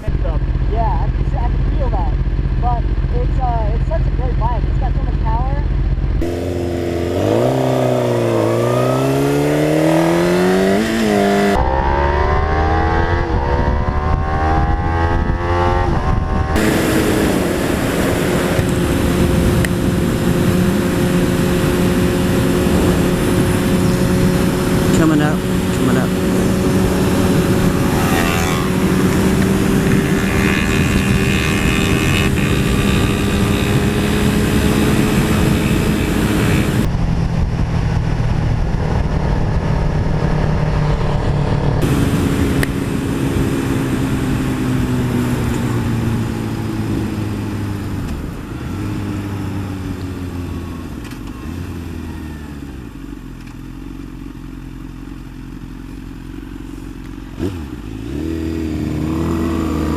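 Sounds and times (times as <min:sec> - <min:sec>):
wind noise: 0:00.0 - 0:51.4
motorcycle engine and exhaust: 0:00.0 - 0:59.9.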